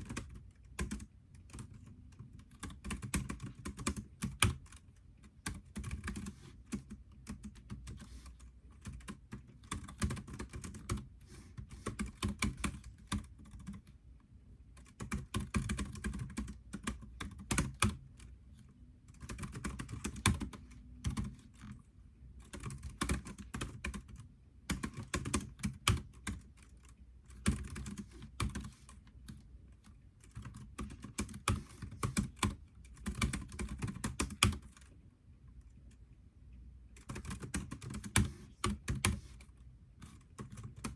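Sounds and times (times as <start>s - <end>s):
typing on computer keyboard: 0.0s - 14.0s, 14.7s - 21.8s, 22.4s - 34.9s, 36.9s - 40.9s.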